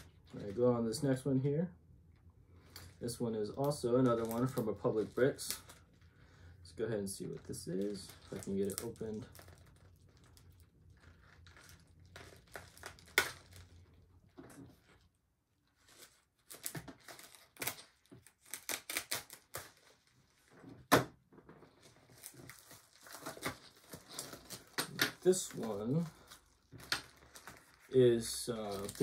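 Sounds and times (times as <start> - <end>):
plastic envelope crinkling and ripping: 0.0 - 0.7, 2.7 - 6.4, 7.1 - 29.0.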